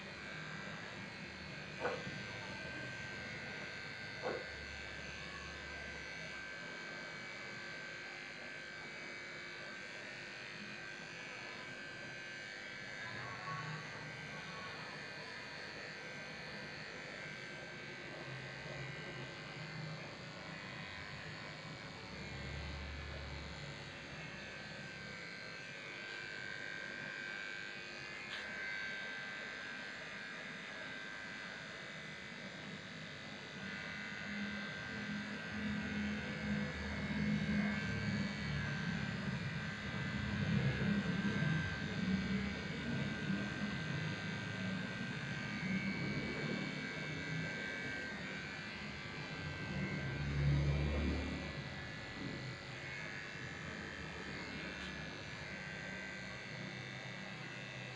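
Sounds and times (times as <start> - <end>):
electric clippers running: 0.0 - 57.9.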